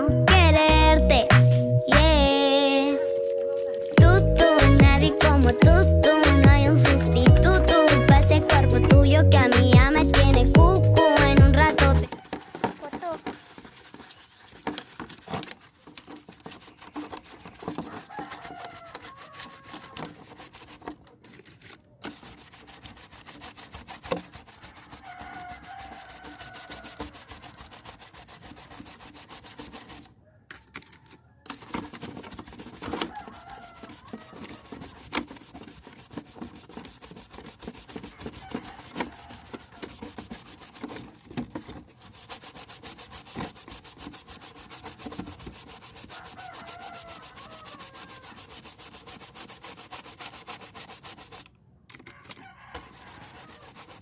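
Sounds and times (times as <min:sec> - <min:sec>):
rapid rubbing strokes: 0:01.4 - 0:30.1, 0:31.5 - 0:51.5, 0:52.7 - 0:54.0.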